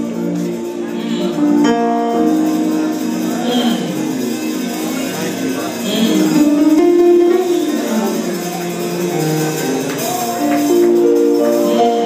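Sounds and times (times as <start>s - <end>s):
live worship music: 0.0s - 12.0s.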